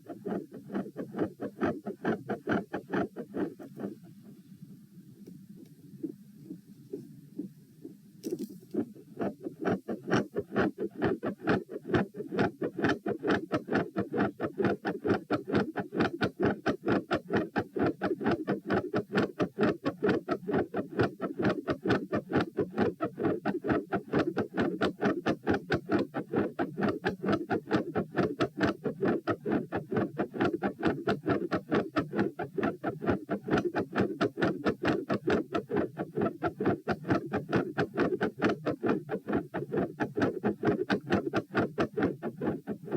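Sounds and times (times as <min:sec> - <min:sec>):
fast heartbeat clicks: 0:00.0 - 0:04.0, 0:07.4 - 0:42.9.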